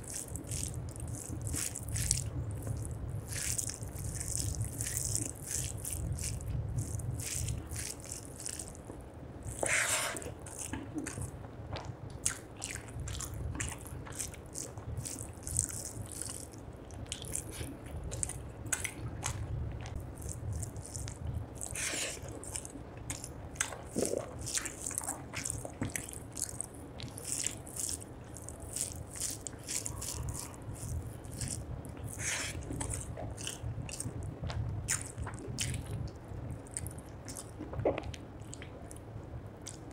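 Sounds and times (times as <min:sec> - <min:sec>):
fingers squishing rice: 0:00.0 - 0:39.0
low steady hum: 0:00.0 - 0:39.9
wet chewing: 0:00.0 - 0:39.9.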